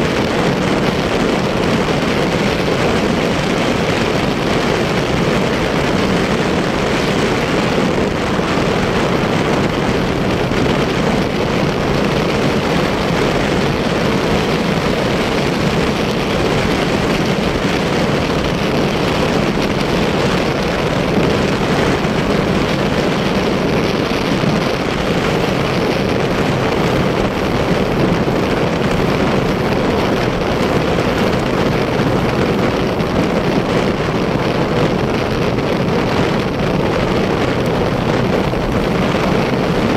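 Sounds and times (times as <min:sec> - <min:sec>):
motorcycle engine at speed: 0:00.0 - 0:39.9
wind rush: 0:00.0 - 0:39.9.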